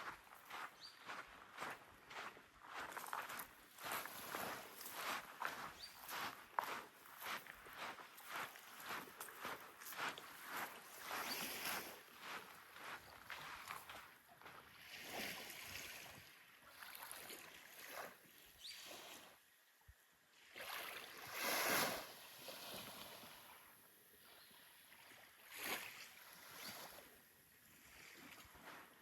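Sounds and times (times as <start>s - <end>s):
small waves washing onto sand: 0.0s - 0.7s, 1.6s - 19.4s, 20.3s - 29.0s.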